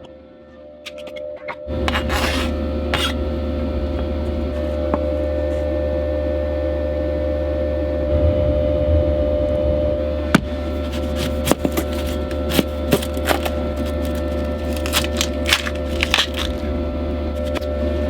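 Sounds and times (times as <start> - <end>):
air heater buzzing hum: 1.7 - 18.0.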